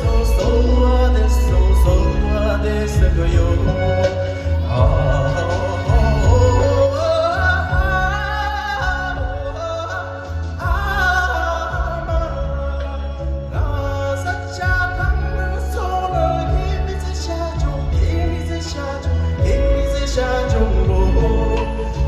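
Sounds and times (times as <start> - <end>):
backing track with low bass: 0.0 - 22.0
high voice singing: 0.0 - 22.0.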